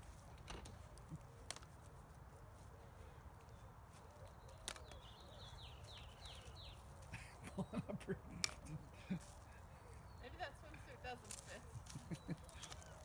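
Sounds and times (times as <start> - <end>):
songbird chirping: 2.3 - 13.0.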